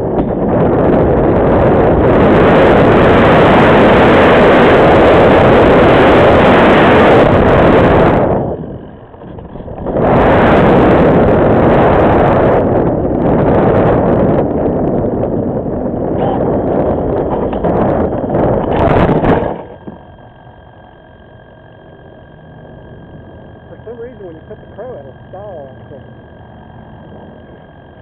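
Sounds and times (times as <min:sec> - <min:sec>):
wind rush and buffeting on microphone: 0:00.0 - 0:28.0.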